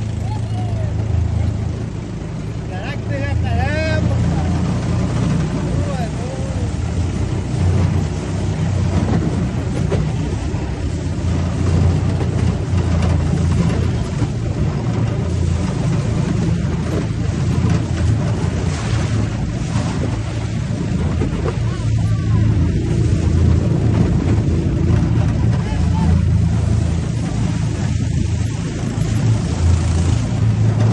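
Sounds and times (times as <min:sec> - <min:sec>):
boat motor running: 0:00.0 - 0:30.9.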